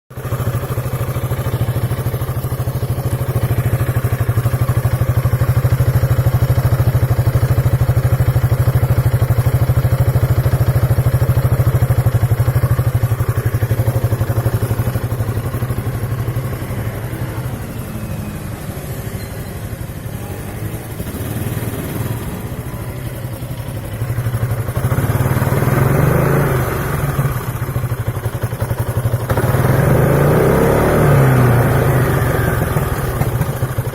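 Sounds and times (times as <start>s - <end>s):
scooter engine running and misfiring: 0.1s - 33.9s.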